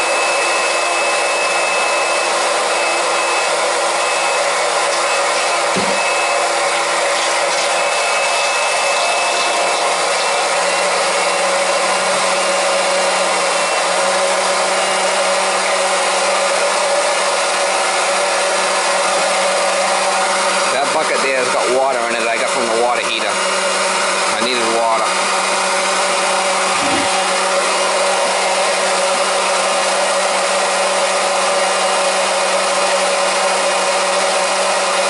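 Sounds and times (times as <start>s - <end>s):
electric pump running: 0.0s - 35.0s.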